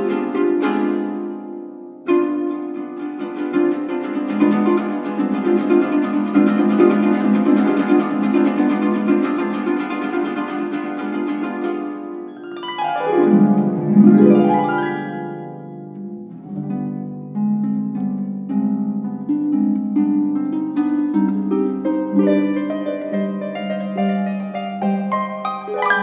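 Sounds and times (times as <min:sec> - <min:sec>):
harp playing: 0:00.0 - 0:26.0.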